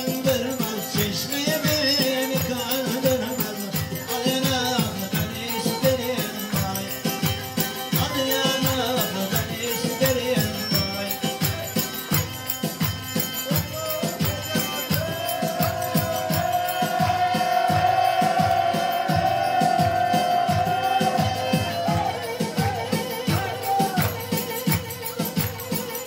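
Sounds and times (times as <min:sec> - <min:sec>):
bowed folk fiddle melody: 0:00.0 - 0:26.0
fast steady drum beat: 0:00.0 - 0:26.0.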